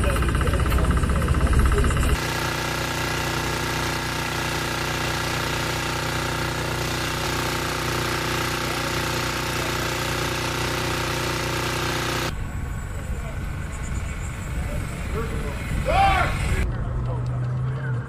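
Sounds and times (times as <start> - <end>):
small pump engine running: 0.0 - 16.6.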